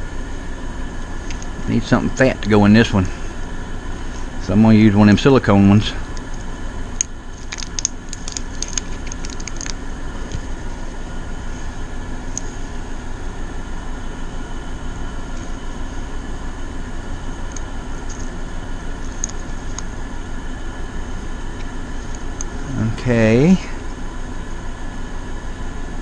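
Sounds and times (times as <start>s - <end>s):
air conditioners humming: 0.0s - 26.0s.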